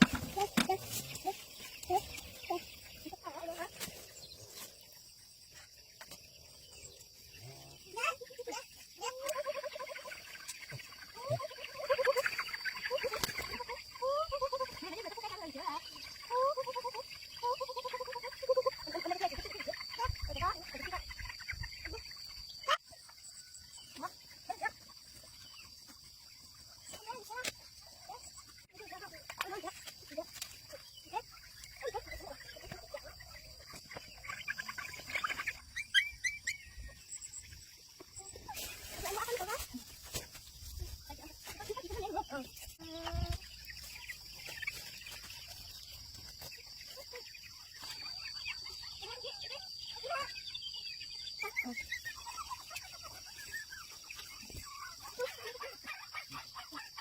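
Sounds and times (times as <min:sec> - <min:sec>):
faint bird chirps: 0:00.0 - 0:57.0
insects droning: 0:00.0 - 0:57.0.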